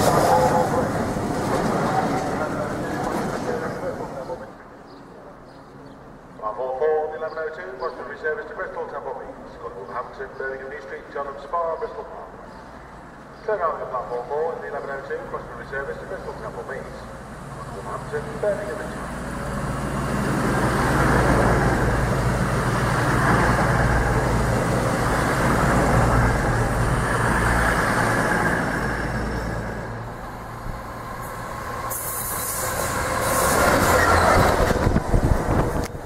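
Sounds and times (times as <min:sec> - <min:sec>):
train rumbling past: 0:00.0 - 0:06.4, 0:09.4 - 0:36.0.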